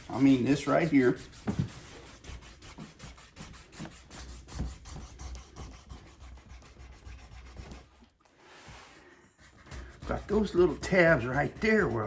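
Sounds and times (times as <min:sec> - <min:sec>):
hand rubbing leather: 0:00.0 - 0:12.0.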